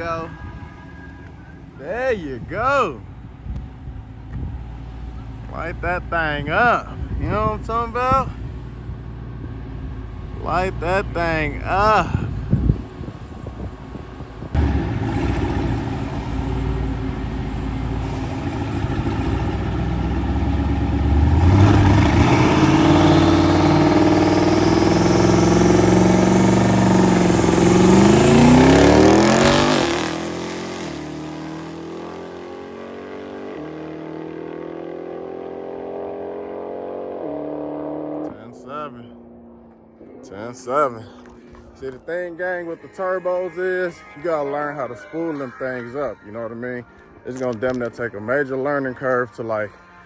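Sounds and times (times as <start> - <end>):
lower engine note: 0.0 - 50.0
engine accelerating hard: 3.9 - 45.9.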